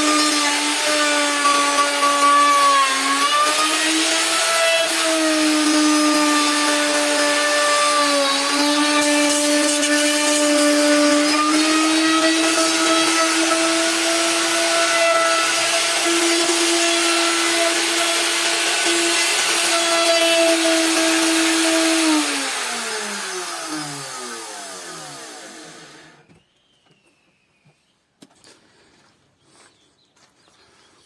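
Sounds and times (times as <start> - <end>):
power tool whining: 0.0 - 27.0.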